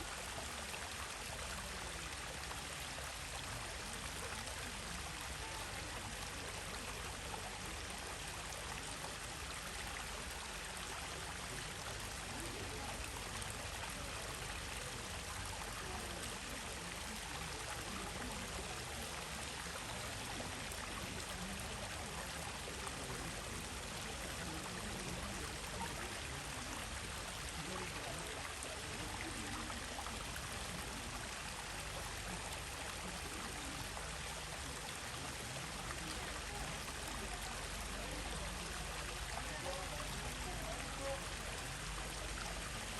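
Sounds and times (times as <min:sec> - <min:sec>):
stream water running: 0:00.0 - 0:42.9.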